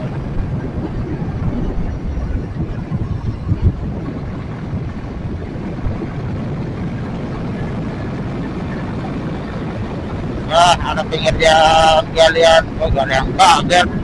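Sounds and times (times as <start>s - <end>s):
motorcycle engine and road drone: 0.0s - 14.0s
wind buffeting microphone: 0.0s - 14.0s.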